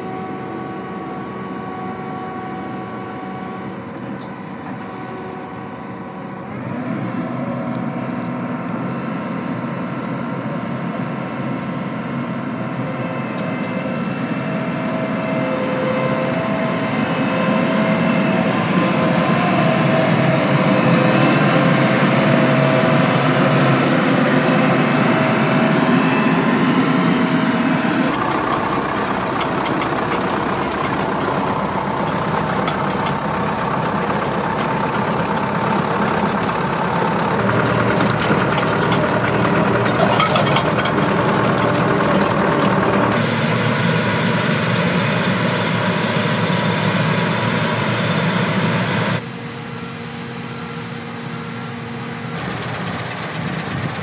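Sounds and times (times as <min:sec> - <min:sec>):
tractor engine: 0:00.0 - 0:49.3, 0:51.2 - 0:54.0
combine harvester droning: 0:00.0 - 0:54.0.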